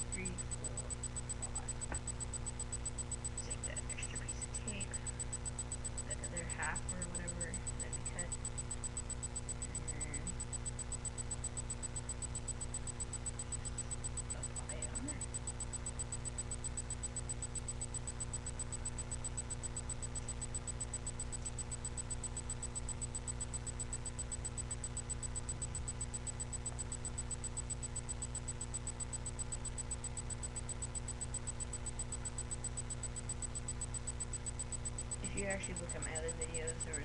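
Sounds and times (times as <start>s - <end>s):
faint high whine: 0.0s - 37.0s
microphone electrical hum and hiss: 0.0s - 37.0s.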